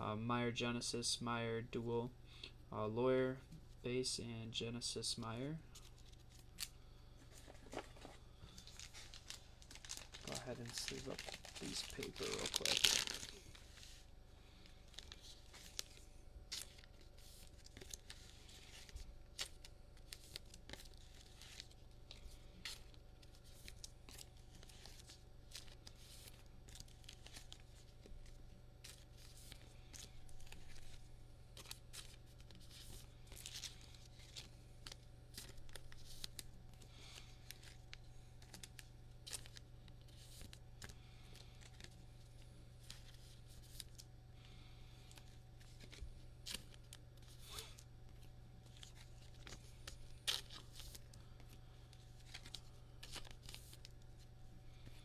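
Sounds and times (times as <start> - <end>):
trading cards rustling into sleeves: 5.2 - 55.0.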